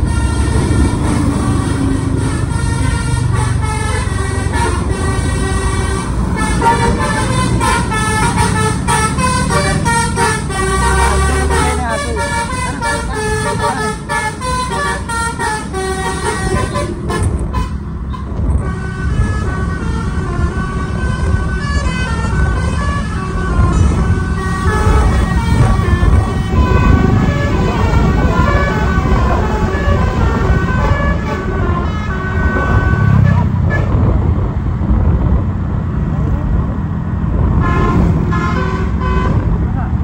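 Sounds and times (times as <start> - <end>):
multi-tone bus horn tune: 0.0 - 34.2, 37.5 - 40.0
engine and road rumble: 0.0 - 40.0.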